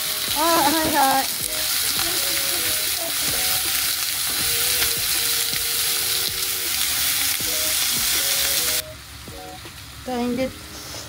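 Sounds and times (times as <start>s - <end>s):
beef sizzling in frying pan: 0.0s - 10.3s.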